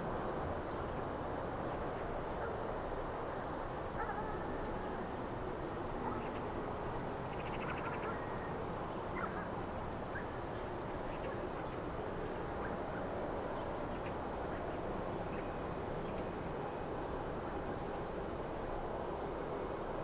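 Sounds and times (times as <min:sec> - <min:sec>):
outdoor background rumble and hiss: 0:00.0 - 0:20.0.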